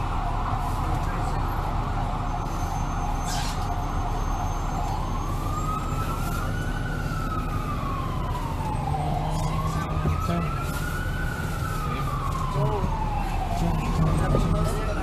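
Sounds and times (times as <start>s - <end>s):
city traffic noise: 0.0s - 15.0s
emergency siren wailing: 0.0s - 15.0s.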